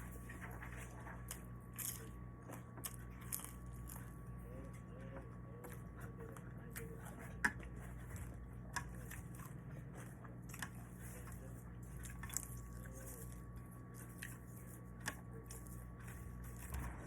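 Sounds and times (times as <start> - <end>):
person chewing food: 0.0 - 4.4, 5.6 - 17.0.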